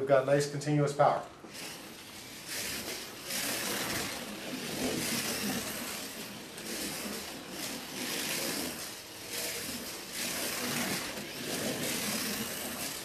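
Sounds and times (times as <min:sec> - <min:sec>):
slot car motor whining: 0:01.4 - 0:13.0.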